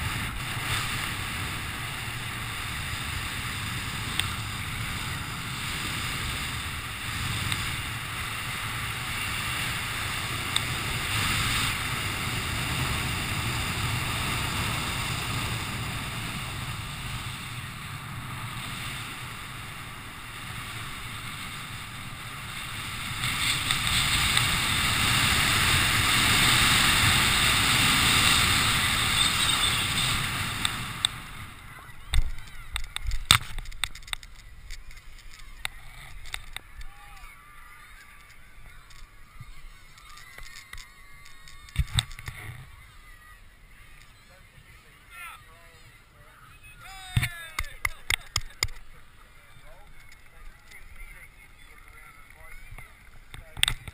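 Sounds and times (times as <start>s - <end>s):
wind rushing over microphone: 0.0s - 45.1s.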